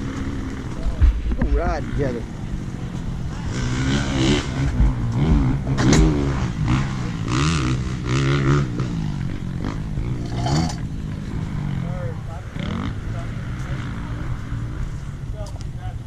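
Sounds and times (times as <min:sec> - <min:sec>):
dirt bike engine revving: 0:00.0 - 0:15.1.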